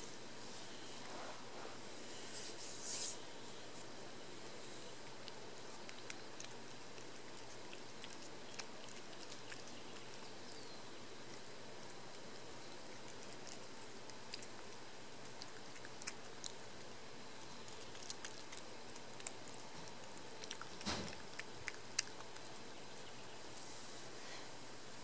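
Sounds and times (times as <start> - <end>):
steady background hiss: 0.0 - 25.0
cat chewing and licking: 3.5 - 24.2.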